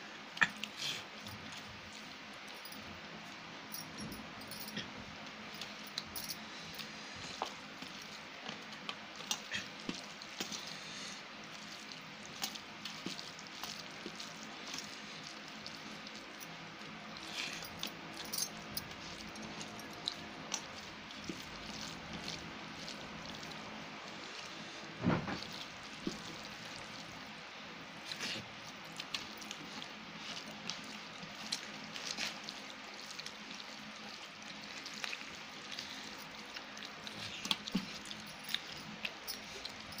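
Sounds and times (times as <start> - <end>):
wet squishing of food by hand: 0.2 - 3.8, 4.8 - 40.0.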